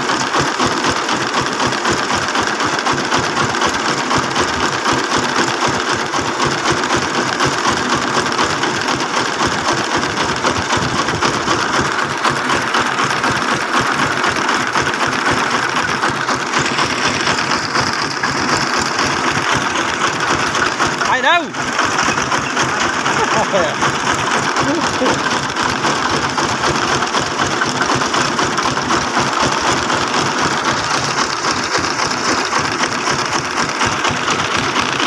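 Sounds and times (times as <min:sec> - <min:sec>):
truck engine chugging: 0:00.0 - 0:35.0.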